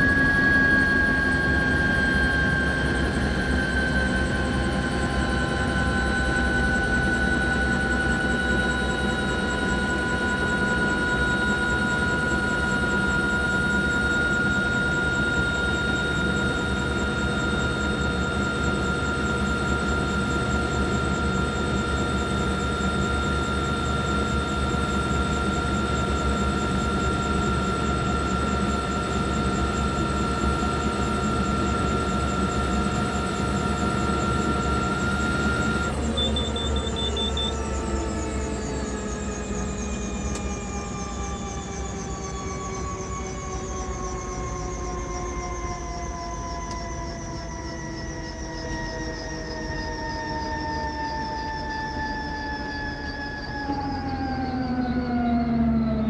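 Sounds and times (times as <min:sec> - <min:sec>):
steady machine-like drone: 0:00.0 - 0:56.0.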